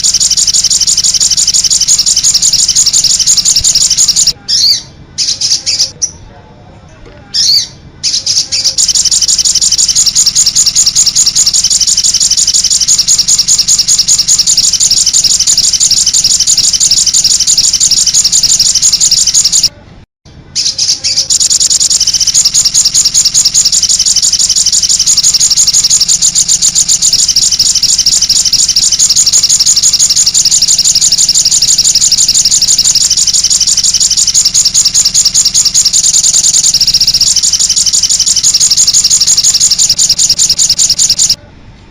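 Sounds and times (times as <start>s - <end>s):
songbird chirping and trilling: 0.0s - 6.3s, 7.3s - 19.7s, 20.3s - 41.4s.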